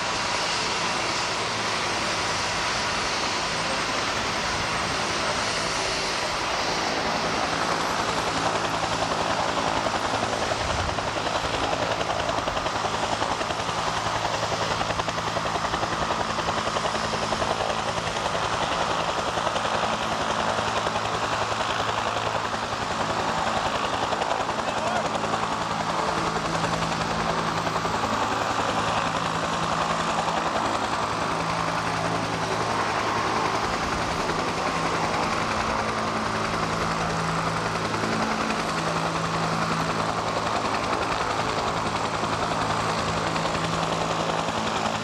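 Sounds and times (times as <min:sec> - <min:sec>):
helicopter engine and rotor chop: 0:00.0 - 0:45.0.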